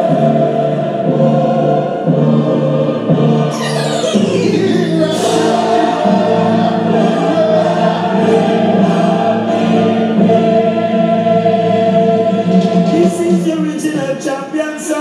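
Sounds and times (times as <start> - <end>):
sustained choir-like chords: 0.0 - 13.0.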